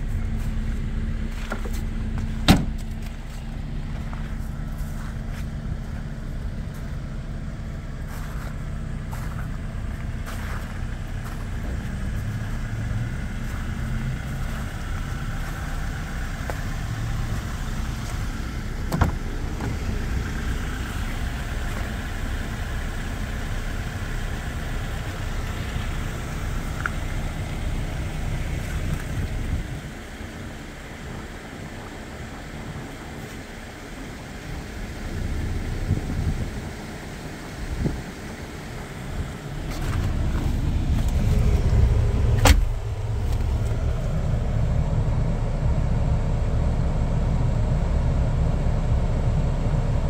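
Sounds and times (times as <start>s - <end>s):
outdoor noise: 0.0s - 50.0s
vehicle engine idling: 0.0s - 50.0s.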